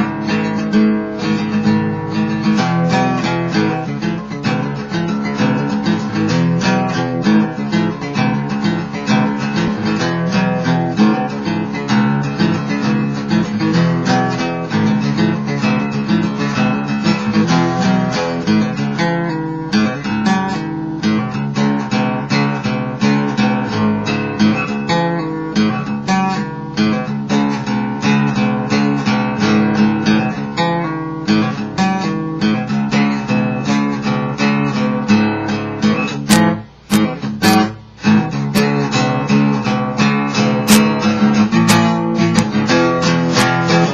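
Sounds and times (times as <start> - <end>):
acoustic guitar picking and strumming: 0.0 - 43.9.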